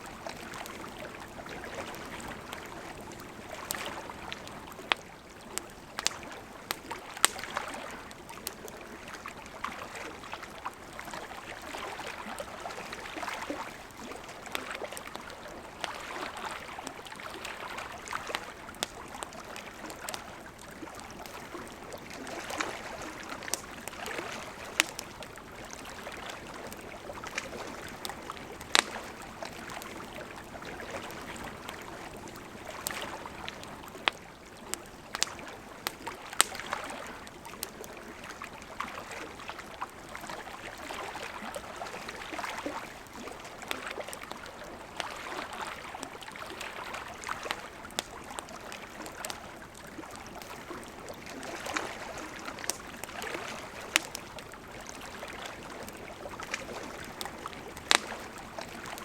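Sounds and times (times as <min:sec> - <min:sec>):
campfire crackling and popping: 0:00.0 - 0:59.0
lake waves lapping: 0:00.0 - 0:59.0.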